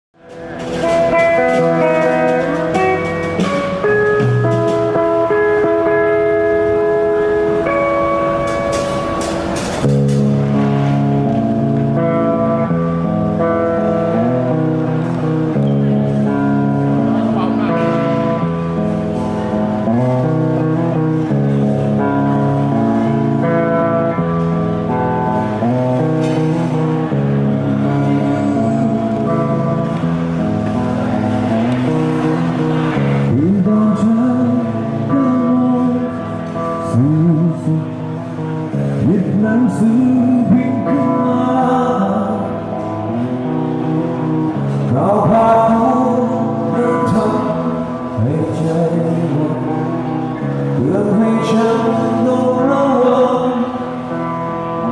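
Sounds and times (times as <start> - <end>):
held guitar chords: 0.2 - 54.9
rock band playing: 0.2 - 54.9.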